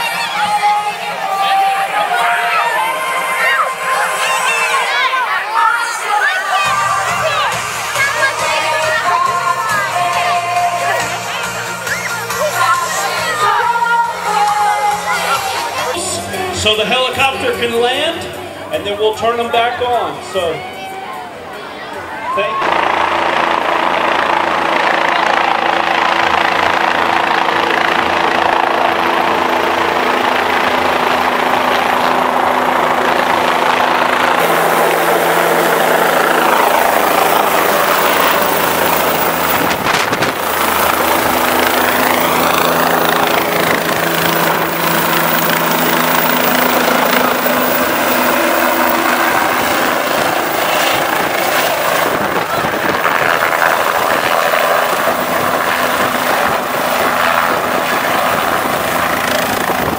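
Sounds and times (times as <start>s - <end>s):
helicopter rotor and turbine: 0.0s - 16.0s, 22.6s - 59.9s.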